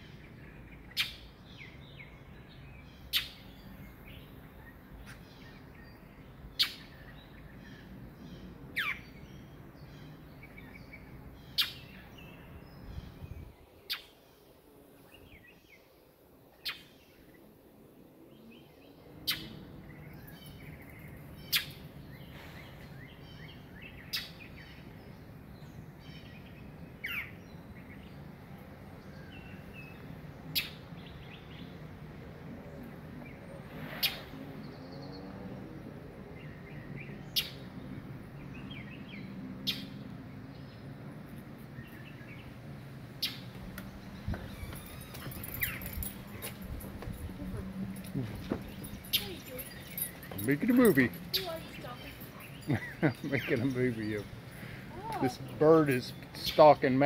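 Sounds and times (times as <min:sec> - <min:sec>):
faint bird chirping: 0:00.0 - 0:57.0.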